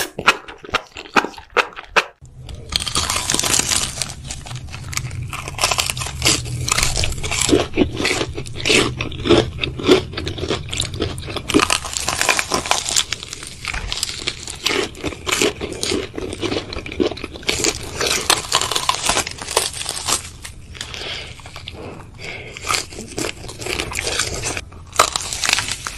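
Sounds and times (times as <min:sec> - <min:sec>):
crunching crisp food: 0:00.0 - 0:25.9.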